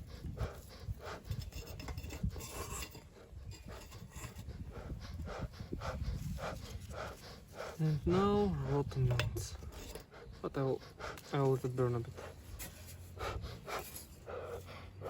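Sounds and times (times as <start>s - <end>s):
bellows puffing air: 0.0s - 15.0s.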